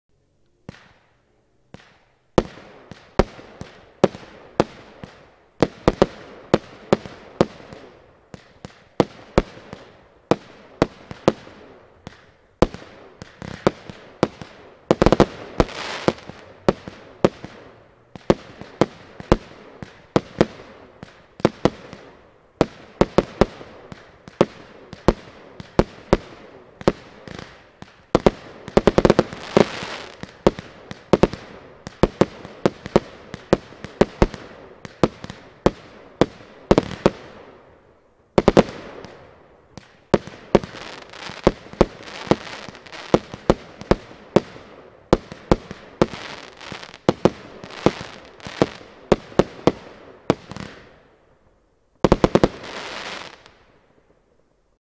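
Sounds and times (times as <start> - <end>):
crackling fireworks: 0.1 - 54.8
fireworks cake firing: 1.7 - 37.6, 38.4 - 51.0.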